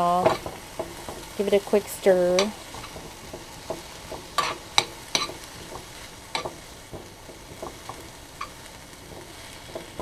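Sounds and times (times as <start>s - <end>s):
food sizzling: 0.0s - 10.0s
metal spoon scraping pan: 0.0s - 10.0s.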